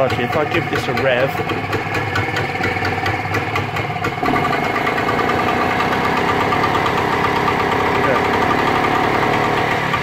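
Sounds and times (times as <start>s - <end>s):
boat engine revving: 0.0s - 10.0s.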